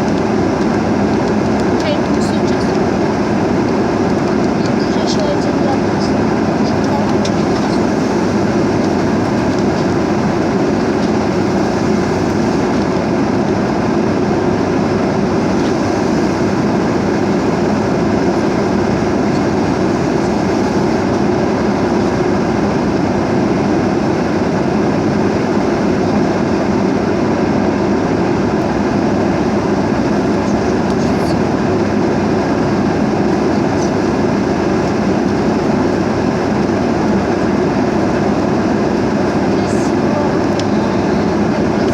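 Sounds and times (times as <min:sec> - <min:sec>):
airplane cabin roar: 0:00.0 - 0:41.9.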